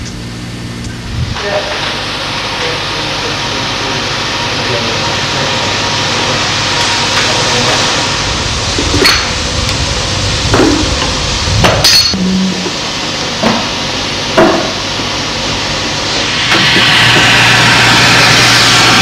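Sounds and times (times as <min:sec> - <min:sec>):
steam hissing: 0:01.4 - 0:19.0.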